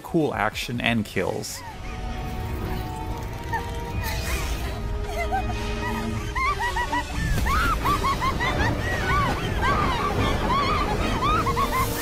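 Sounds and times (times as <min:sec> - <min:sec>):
soundtrack music: 0:01.7 - 0:12.0.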